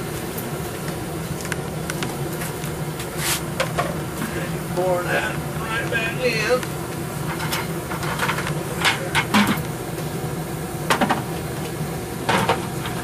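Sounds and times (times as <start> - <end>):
forge running: 0.0 - 13.0.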